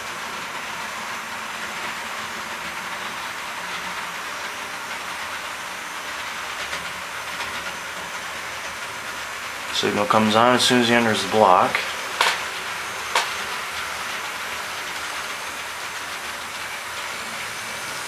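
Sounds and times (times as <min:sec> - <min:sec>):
model train wheels rolling on track: 0:00.0 - 0:18.0.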